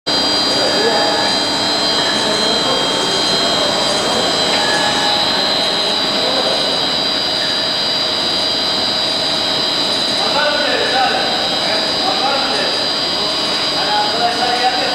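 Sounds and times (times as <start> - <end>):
extrusion machine running: 0.1 - 14.9
high-pitched machine whine: 0.1 - 14.9.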